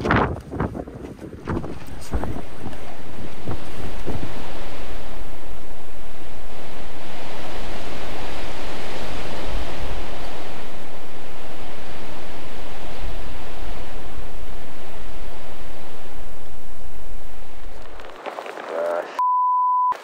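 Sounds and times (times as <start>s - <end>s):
wind blowing across microphone: 0.0s - 19.0s.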